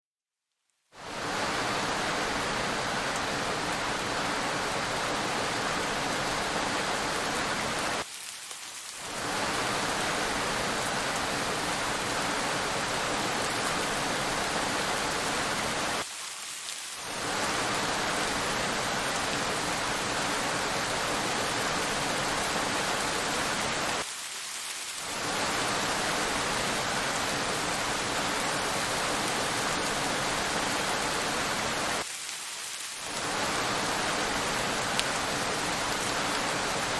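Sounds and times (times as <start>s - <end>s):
rain falling on road: 0.8s - 36.9s.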